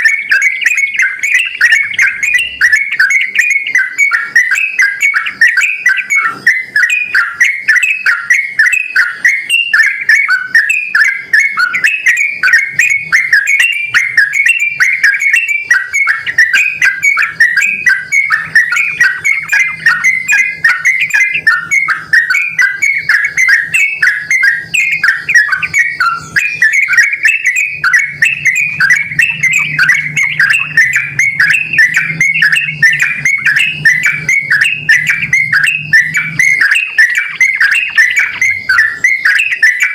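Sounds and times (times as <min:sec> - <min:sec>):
bird singing bubbling chatter: 0:00.0 - 0:39.9.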